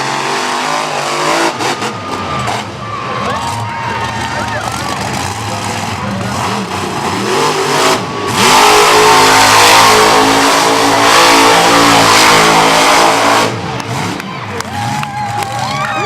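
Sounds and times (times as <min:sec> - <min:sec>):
truck engine revving: 0:00.0 - 0:15.7.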